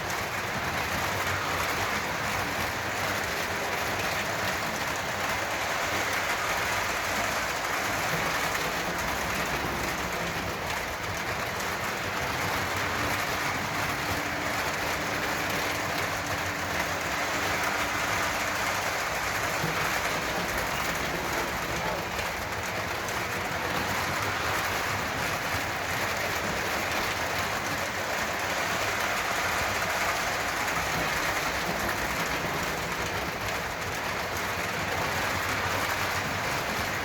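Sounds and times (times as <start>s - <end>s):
model train rumbling on rails: 0.0s - 37.0s.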